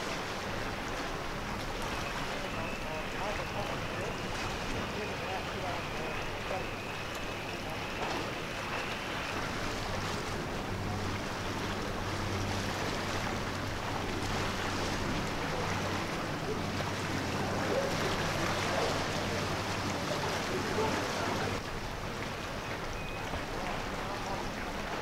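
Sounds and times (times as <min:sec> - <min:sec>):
boat engine droning: 0:00.0 - 0:25.0
sea wash: 0:00.0 - 0:25.0
wind: 0:00.0 - 0:25.0.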